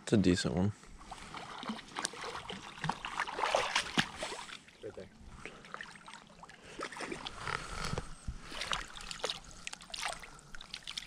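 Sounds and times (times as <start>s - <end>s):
shallow water splashing: 1.0s - 11.0s.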